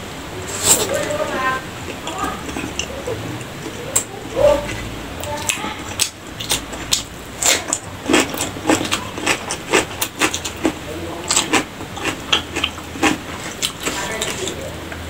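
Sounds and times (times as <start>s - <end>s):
crisp chewing of cucumber: 1.9s - 14.7s.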